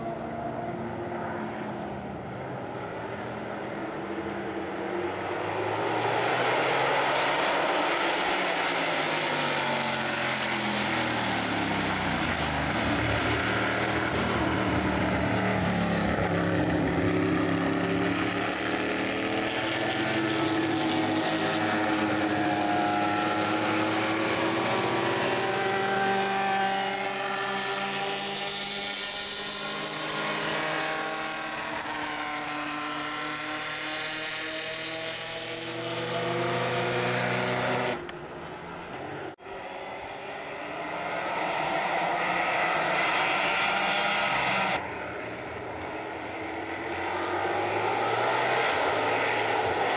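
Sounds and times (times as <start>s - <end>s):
race car engines passing: 0.0s - 49.9s.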